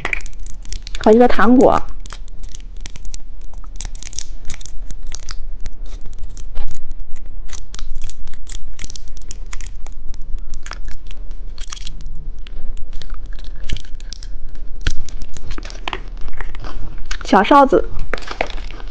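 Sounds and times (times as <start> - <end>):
plastic wrapper crinkling: 0.0 - 18.9.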